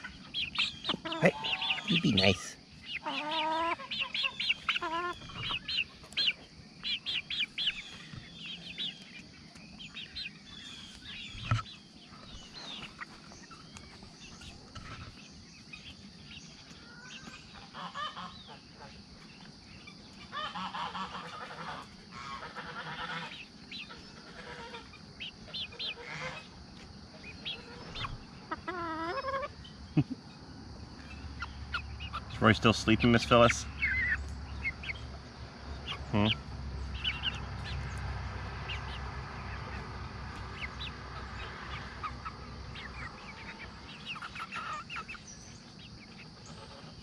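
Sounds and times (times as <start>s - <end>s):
chicks peeping: 0.0s - 47.0s.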